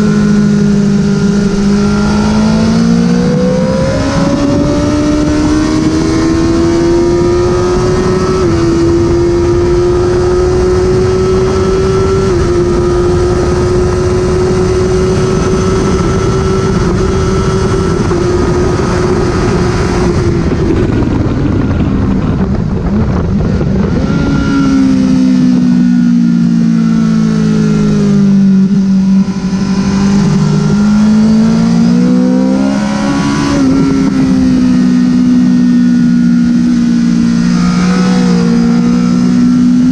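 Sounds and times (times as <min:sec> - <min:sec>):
loud wind rush: 0:00.0 - 0:39.9
motorcycle engine at high revs: 0:00.0 - 0:39.9.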